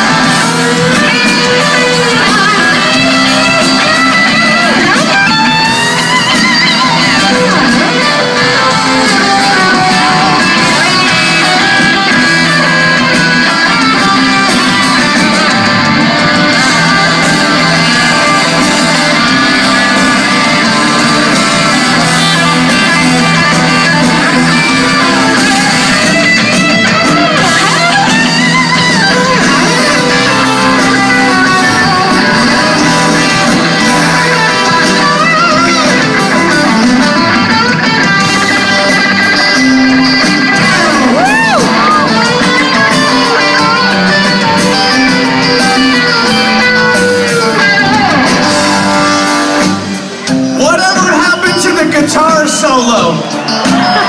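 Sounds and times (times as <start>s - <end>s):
electric guitar bending notes: 0.0s - 54.0s
live rock band: 0.0s - 54.0s.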